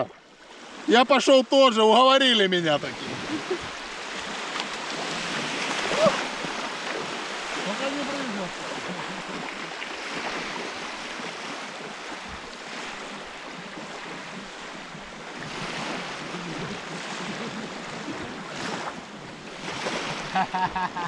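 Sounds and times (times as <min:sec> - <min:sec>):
small waves breaking on shore: 0:00.0 - 0:21.0.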